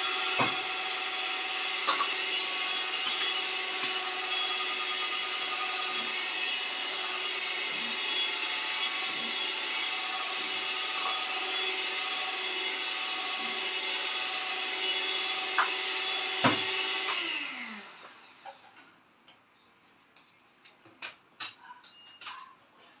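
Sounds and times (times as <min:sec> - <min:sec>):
electric mixer whining: 0:00.0 - 0:18.7.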